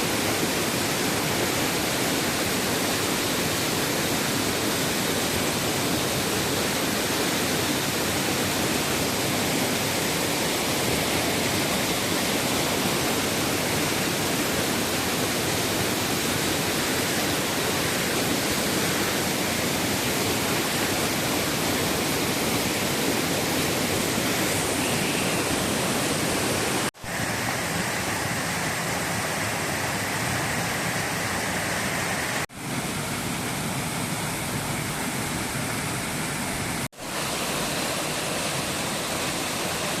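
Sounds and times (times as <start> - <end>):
water rushing down a cascade: 0.0 - 40.0.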